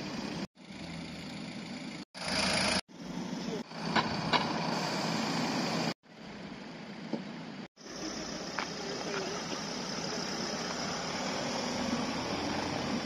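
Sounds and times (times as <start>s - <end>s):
car engines idling: 0.0s - 13.0s.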